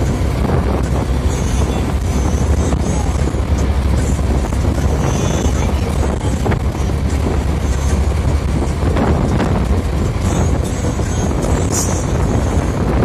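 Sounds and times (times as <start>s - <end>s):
bus engine droning: 0.0s - 13.0s
wind and road noise: 0.0s - 13.0s.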